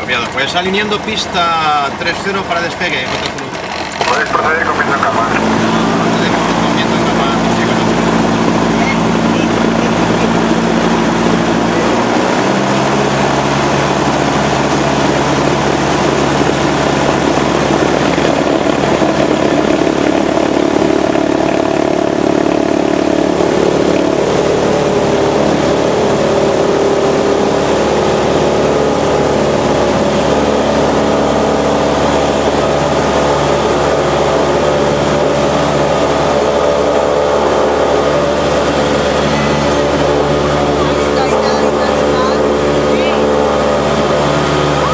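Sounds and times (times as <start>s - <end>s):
propeller aircraft engine droning: 0.0s - 44.9s.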